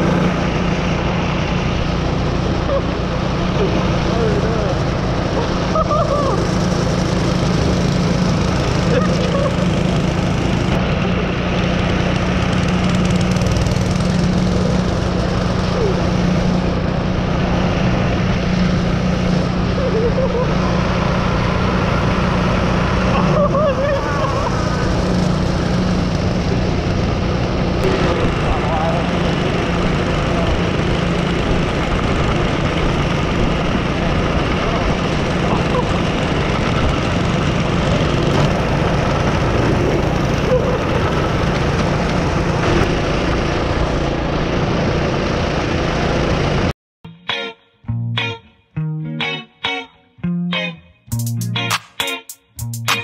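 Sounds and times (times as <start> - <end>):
small gas engine running: 0.0 - 46.7.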